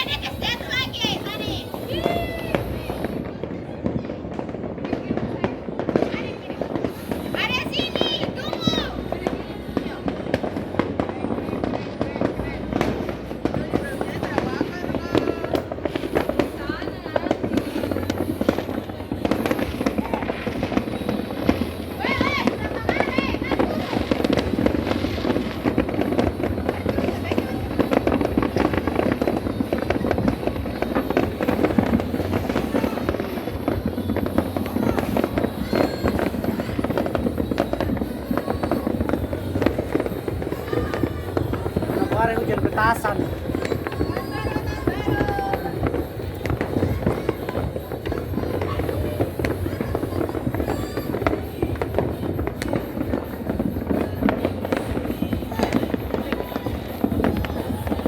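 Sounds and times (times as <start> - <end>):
fireworks and firecrackers bangs: 0.0 - 58.0.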